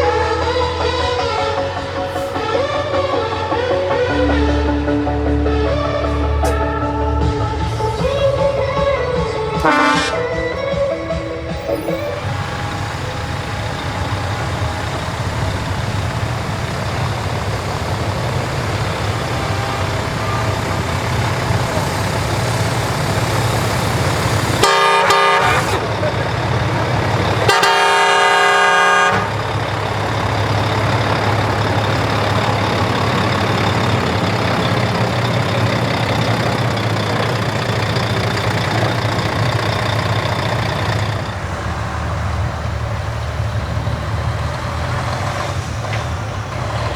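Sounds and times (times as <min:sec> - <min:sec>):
truck engines rumbling: 0:00.0 - 0:46.9
truck horn blasts: 0:09.0 - 0:46.9.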